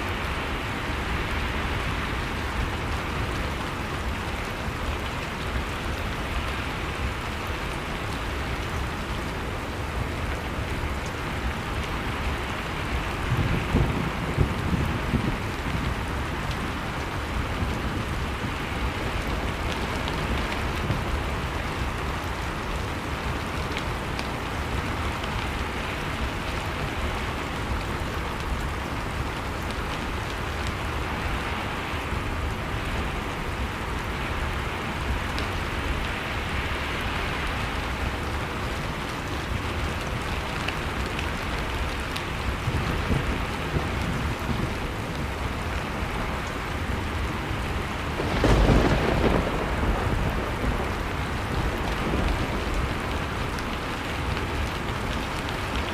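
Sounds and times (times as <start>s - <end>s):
wood fire crackles: 0.0s - 55.9s.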